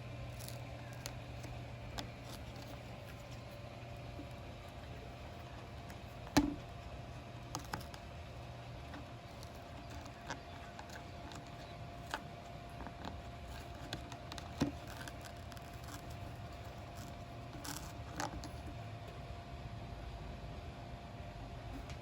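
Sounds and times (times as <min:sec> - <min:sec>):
parrot pecking and tearing cardboard: 0:00.0 - 0:19.2
faint steady hum: 0:00.0 - 0:22.0.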